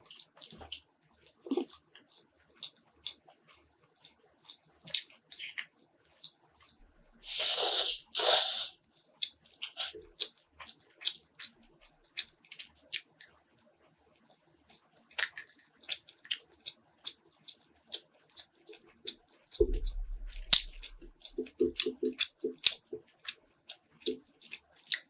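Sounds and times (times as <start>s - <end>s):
wet chewing clicks: 0.0s - 8.4s, 9.2s - 13.4s, 14.7s - 25.0s.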